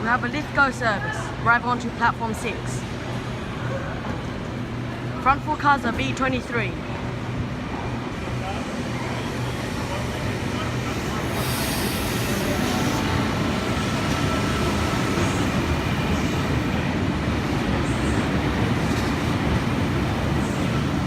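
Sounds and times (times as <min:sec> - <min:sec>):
train motors rumbling: 0:01.3 - 0:21.0.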